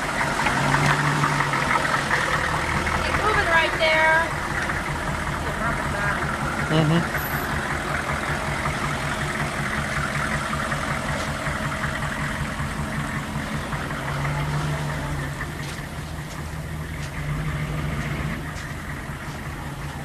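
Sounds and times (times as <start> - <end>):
diesel engine running at low revs: 0.0 - 20.0.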